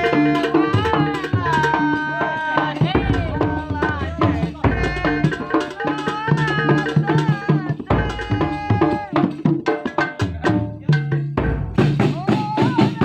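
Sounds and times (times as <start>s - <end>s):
hand drums beating: 0.0s - 13.0s.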